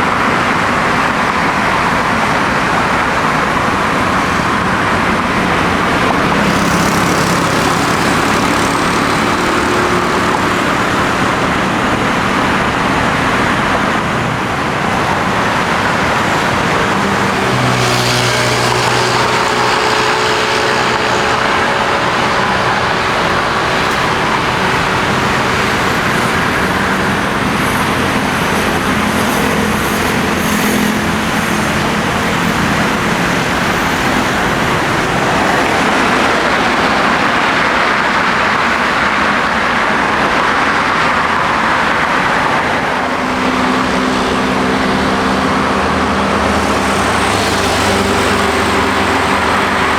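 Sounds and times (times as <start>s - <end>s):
low propeller hum: 0.0s - 49.9s
turboprop airliner engines: 0.0s - 49.9s.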